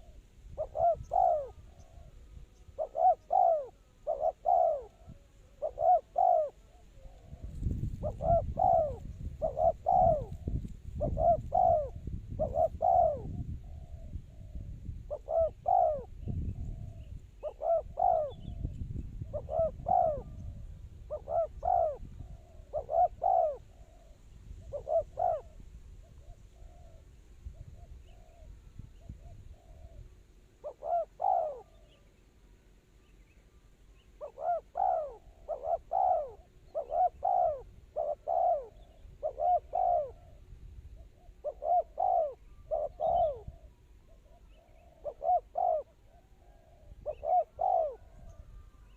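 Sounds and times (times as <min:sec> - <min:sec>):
doves cooing: 0:00.0 - 0:32.1, 0:34.0 - 0:48.9.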